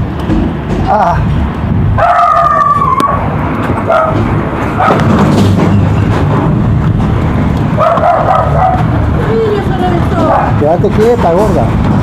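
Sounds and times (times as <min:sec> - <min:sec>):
wind rumbling: 0:00.0 - 0:12.0.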